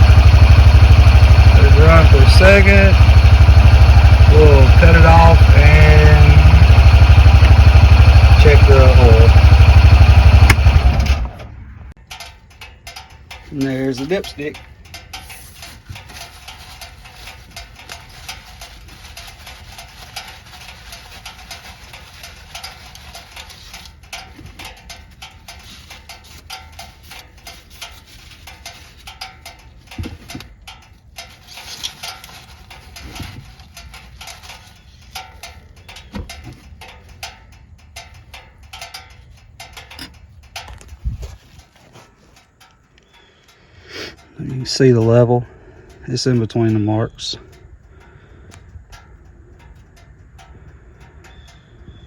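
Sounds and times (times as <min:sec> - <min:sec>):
hands handling engine parts: 0:00.0 - 0:11.3, 0:12.0 - 0:51.9.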